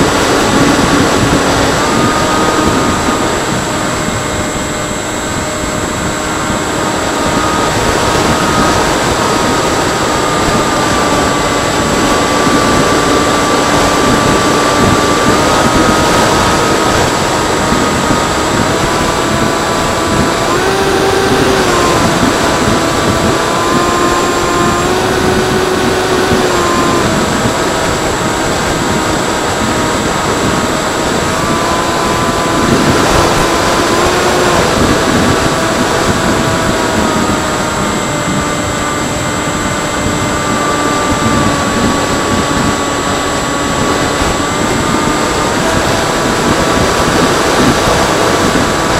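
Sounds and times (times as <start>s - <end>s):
electric motor and propeller whine: 0.0s - 48.9s
wind rushing: 0.0s - 48.9s.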